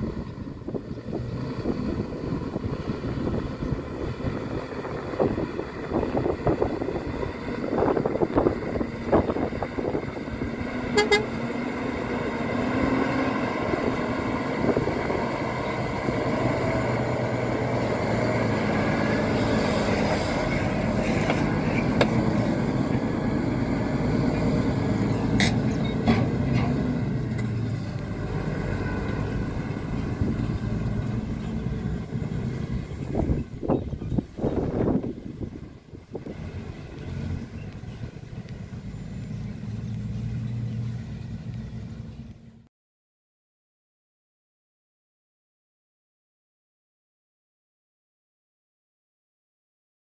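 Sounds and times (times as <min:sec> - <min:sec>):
diesel truck engine pulling hard: 0:00.0 - 0:42.6.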